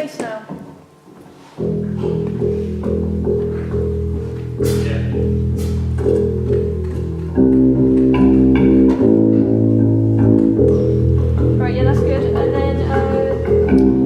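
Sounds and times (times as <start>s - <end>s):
electric bass guitar notes: 0.9s - 14.0s.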